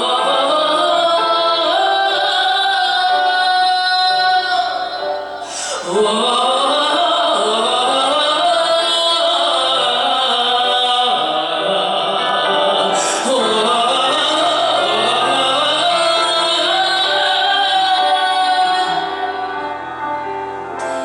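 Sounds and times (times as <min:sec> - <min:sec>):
person singing wordless vowel: 0:00.0 - 0:20.0
musical accompaniment: 0:00.0 - 0:21.0.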